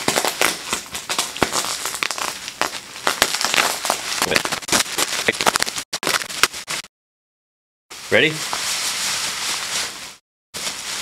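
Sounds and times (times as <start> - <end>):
bubble wrap crinkling and snapping: 0.0 - 6.9, 8.4 - 11.0.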